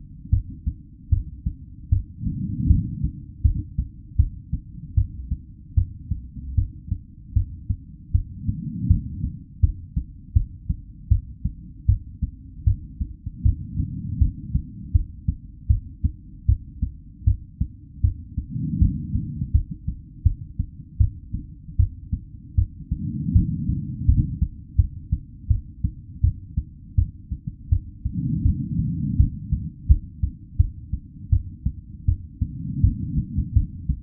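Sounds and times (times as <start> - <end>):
human heartbeat: 0.0 - 34.0.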